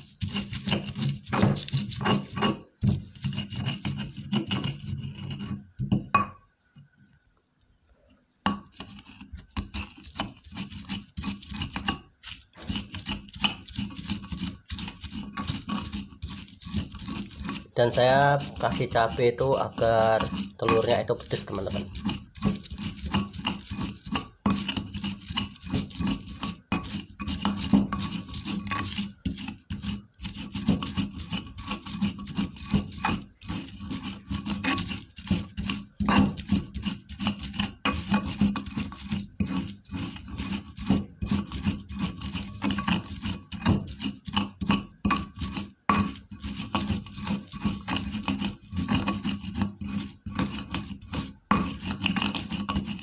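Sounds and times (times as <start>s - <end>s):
stone pestle scraping in mortar: 0.0s - 6.9s, 8.5s - 53.0s.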